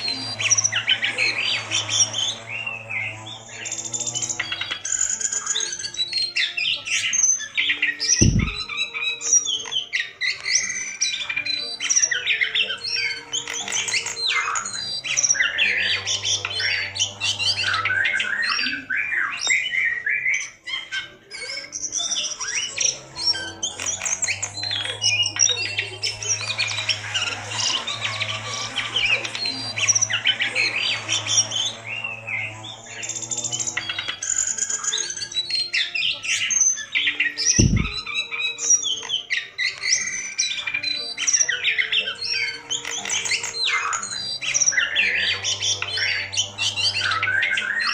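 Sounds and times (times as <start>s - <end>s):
songbird chattering whistles: 3.0s - 47.9s.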